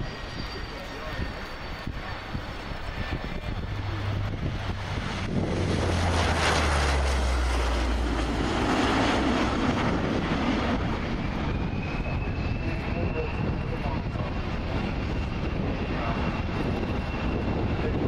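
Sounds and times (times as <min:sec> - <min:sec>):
propeller aircraft roar: 0:00.0 - 0:18.0.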